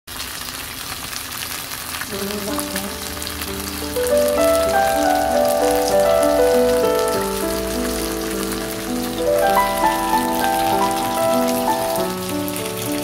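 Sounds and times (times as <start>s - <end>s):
fish sizzling in hot oil: 0.1s - 13.0s
background music: 2.1s - 13.0s.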